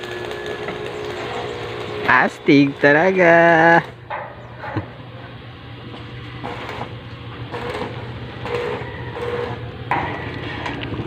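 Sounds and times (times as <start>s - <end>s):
welding arc crackle: 0.0s - 4.1s, 5.9s - 11.0s
low hum: 0.0s - 11.0s.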